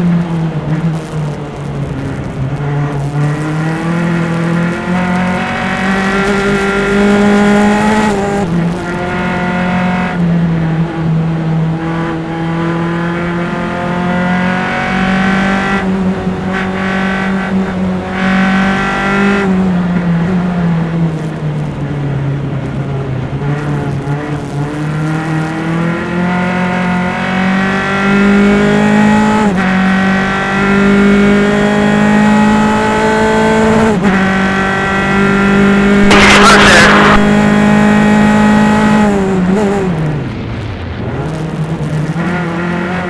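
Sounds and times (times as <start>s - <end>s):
race car engine at high revs: 0.2s - 20.1s, 23.2s - 40.0s.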